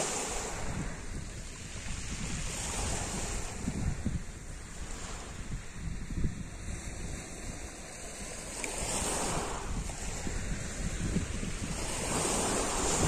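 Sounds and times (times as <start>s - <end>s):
sea waves on pebble beach: 0.0s - 13.0s
wind on microphone: 0.0s - 13.0s.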